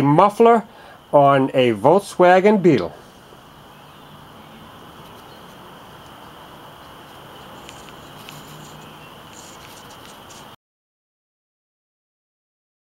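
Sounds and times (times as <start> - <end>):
faint hiss: 0.0 - 10.6
insect chirring: 0.0 - 10.6.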